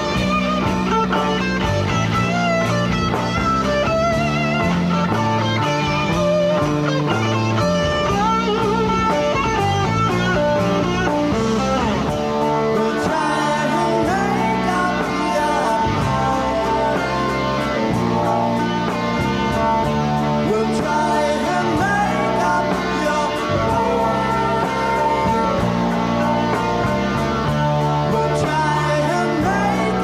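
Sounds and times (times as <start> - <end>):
bass line: 0.0 - 30.0
electric guitar lead: 0.0 - 30.0.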